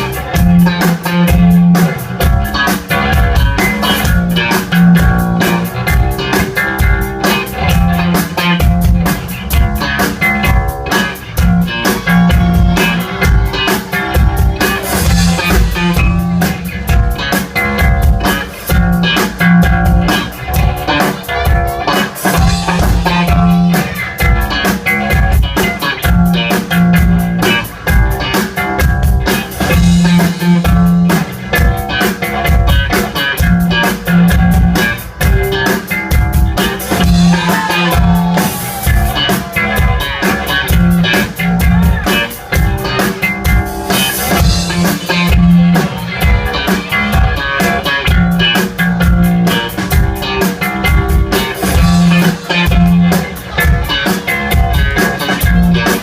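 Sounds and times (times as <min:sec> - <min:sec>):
guitar: 0:00.0 - 0:56.0
steady drum-kit beat: 0:00.0 - 0:56.0.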